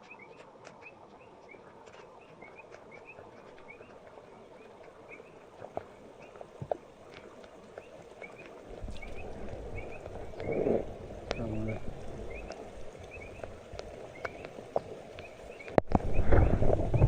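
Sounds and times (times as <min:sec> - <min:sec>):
birds chirping: 0:00.0 - 0:17.0
faint outdoor hiss: 0:00.0 - 0:17.0.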